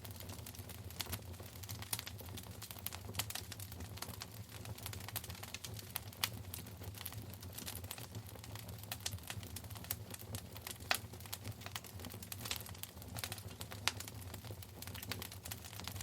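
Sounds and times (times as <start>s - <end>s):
fire popping and crackling: 0.0s - 16.0s
low rumble of flames: 0.0s - 16.0s.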